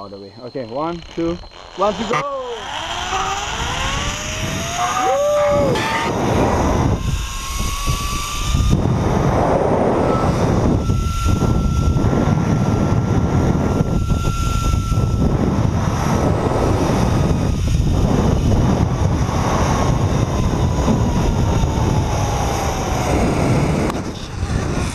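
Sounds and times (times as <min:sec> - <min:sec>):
zip-line pulleys whining on cable: 0:00.0 - 0:24.9
wind rushing over microphone: 0:02.7 - 0:24.9.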